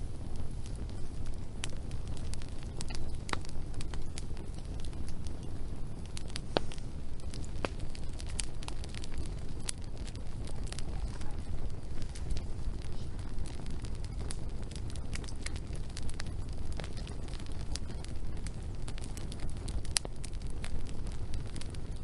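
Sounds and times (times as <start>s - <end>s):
low rumble: 0.0s - 22.0s
wood fire crackling and popping: 0.0s - 22.0s.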